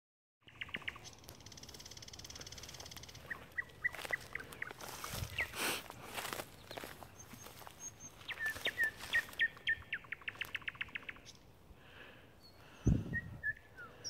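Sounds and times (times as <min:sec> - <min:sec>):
nightingale singing: 0:00.4 - 0:11.5, 0:12.4 - 0:14.0.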